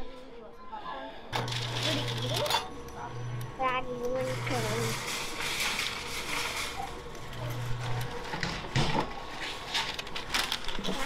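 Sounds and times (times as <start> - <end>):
low electric hum: 1.3 - 11.0.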